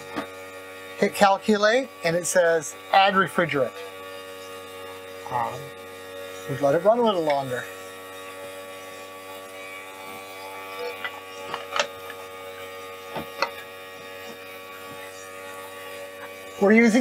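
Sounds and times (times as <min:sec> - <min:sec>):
air conditioner compressor humming: 0:00.0 - 0:17.0.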